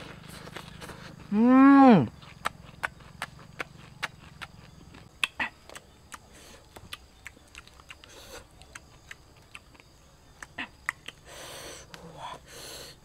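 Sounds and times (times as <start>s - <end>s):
crisp chewing crunches: 0.0s - 11.2s.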